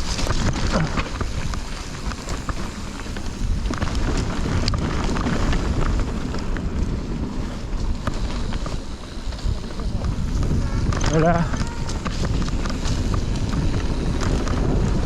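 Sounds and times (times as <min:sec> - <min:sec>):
bike clicking and rattling: 0:00.0 - 0:15.0
tyres rumbling on dirt trail: 0:00.0 - 0:15.0
wind buffeting microphone: 0:00.0 - 0:15.0.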